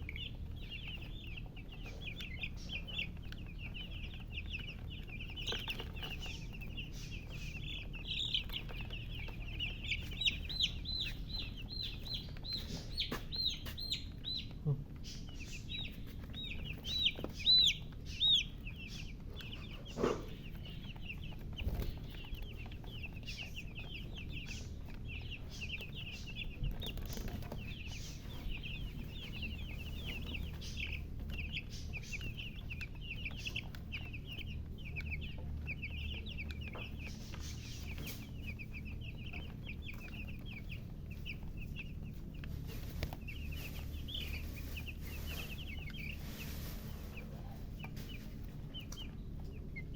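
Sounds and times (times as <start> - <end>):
baby chicks peeping: 0.0 - 49.9
hen clucking: 0.0 - 49.9.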